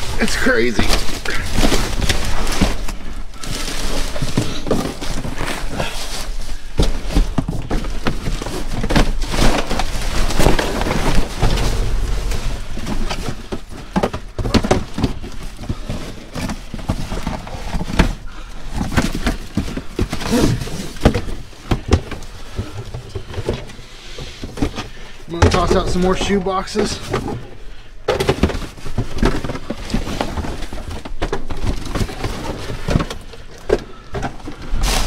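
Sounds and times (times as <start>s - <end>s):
cardboard boxes knocking and thumping: 0.0s - 35.0s.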